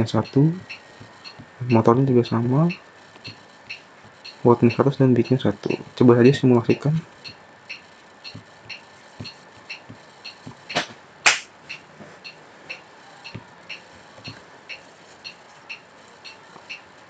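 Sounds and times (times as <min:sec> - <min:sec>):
steady regular ticking: 0:00.0 - 0:10.9, 0:11.5 - 0:17.0.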